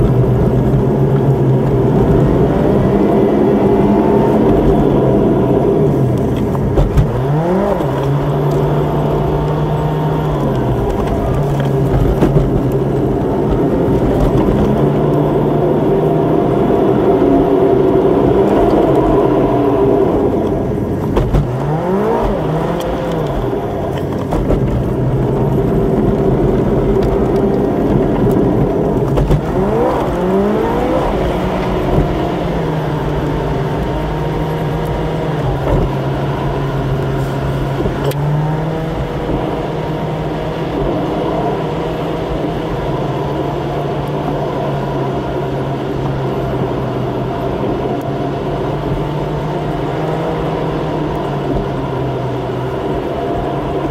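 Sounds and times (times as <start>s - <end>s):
car engine accelerating: 0.0s - 53.9s
road noise inside car: 0.0s - 53.9s.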